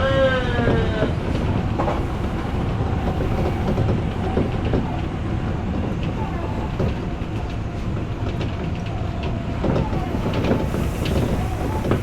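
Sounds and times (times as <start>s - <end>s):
train rumbling on track: 0.0s - 12.0s
wheels clicking over rails: 0.6s - 12.0s.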